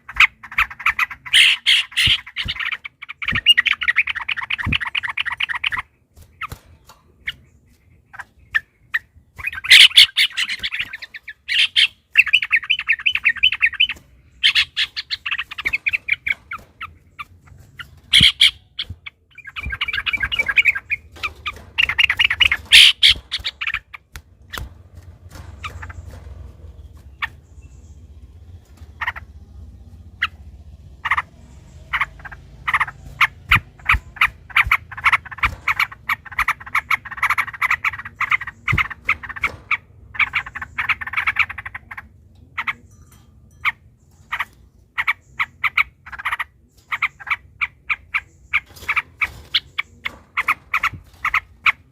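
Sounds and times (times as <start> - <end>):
birds rattling chatter: 0.0 - 51.9.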